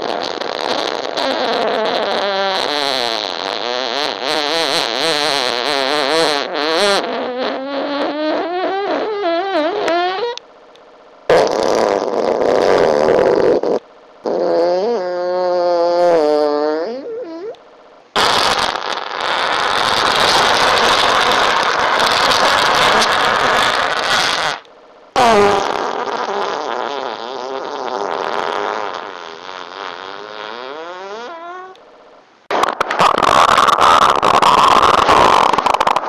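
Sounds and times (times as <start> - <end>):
farts: 0.0 - 10.4, 11.3 - 31.8, 32.5 - 36.0.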